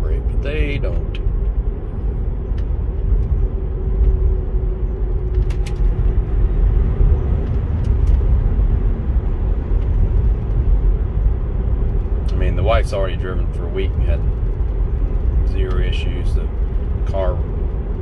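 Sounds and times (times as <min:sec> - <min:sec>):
tyre and road rumble: 0:00.0 - 0:18.0.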